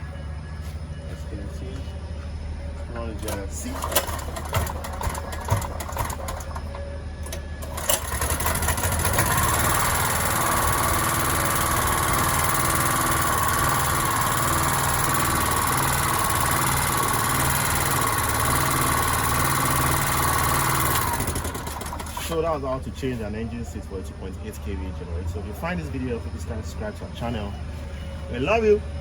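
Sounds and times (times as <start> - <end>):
generator engine running: 0.0 - 29.0
steady whine: 0.0 - 29.0.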